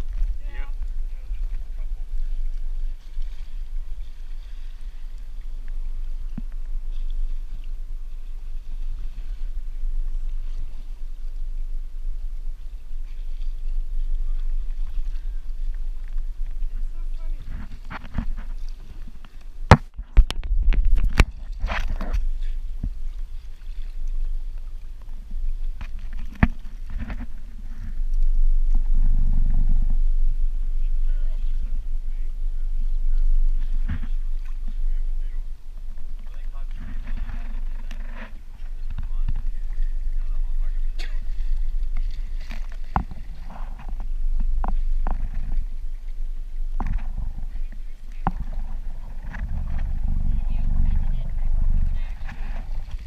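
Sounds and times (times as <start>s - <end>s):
faint water wash: 0.0s - 53.0s
wind rumbling on microphone: 0.0s - 53.0s.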